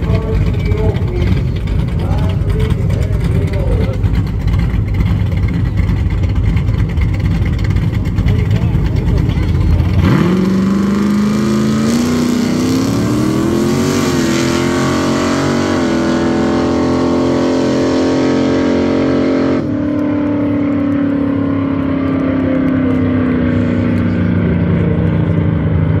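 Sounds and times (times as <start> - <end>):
drag racing car engine: 0.0 - 26.0.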